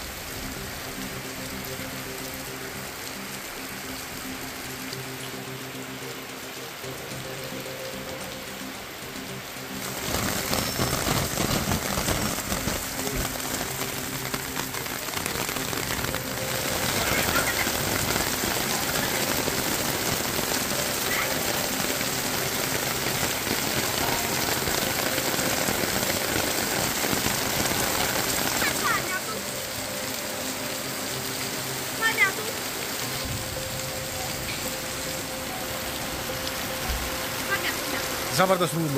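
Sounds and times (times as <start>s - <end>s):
rain on plants: 0.0s - 38.9s
rain on plastic umbrella: 0.0s - 38.9s.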